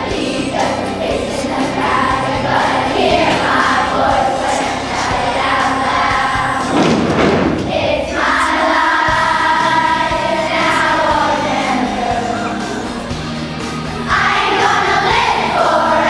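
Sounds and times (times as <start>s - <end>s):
children's choir singing pop song: 0.0s - 16.0s.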